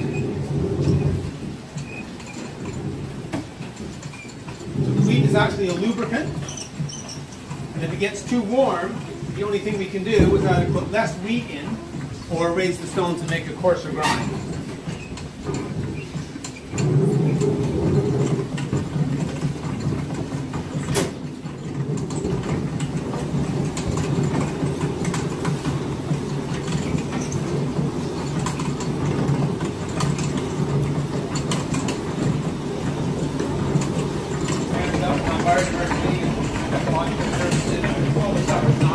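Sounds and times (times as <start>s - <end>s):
millstones grinding rumble: 0.0s - 38.9s.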